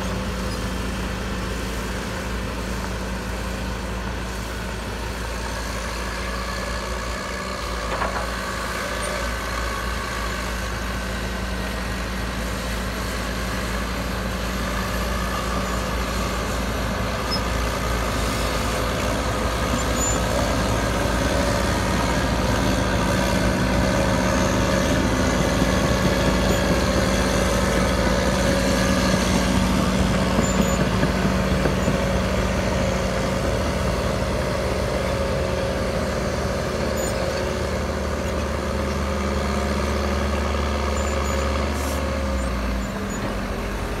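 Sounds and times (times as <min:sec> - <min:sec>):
diesel machinery engine droning: 0:00.0 - 0:44.0.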